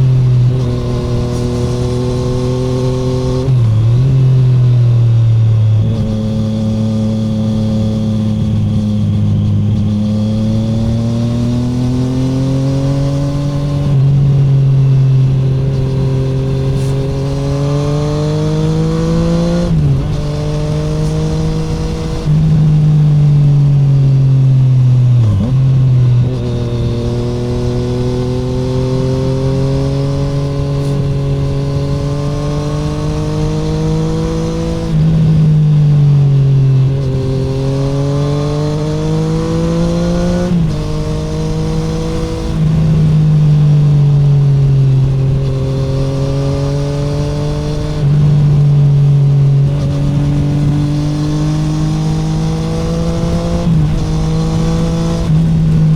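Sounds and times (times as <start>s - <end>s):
motorcycle engine revving through gears: 0.0s - 55.9s.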